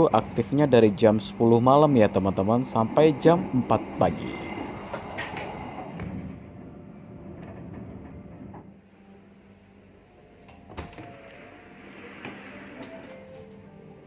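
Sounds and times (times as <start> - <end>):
train carriage hum: 0.0 - 14.0.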